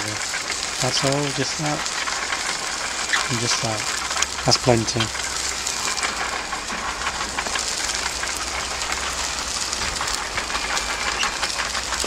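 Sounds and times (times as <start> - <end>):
chicken sizzling over charcoal: 0.0 - 12.0.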